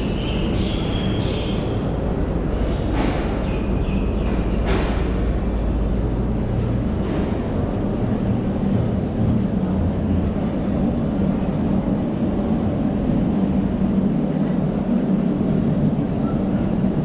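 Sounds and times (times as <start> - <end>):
low rumble of hall background noise: 0.0 - 17.0.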